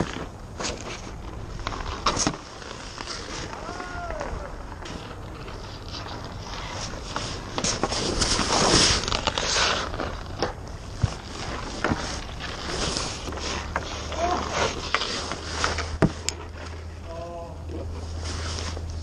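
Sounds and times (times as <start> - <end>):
skate blades scraping ice: 0.0 - 16.9.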